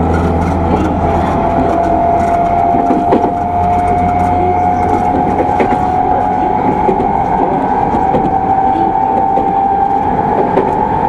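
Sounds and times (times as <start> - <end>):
train motor whine rising: 0.0 - 11.0
wheels rumbling on track: 0.0 - 11.0.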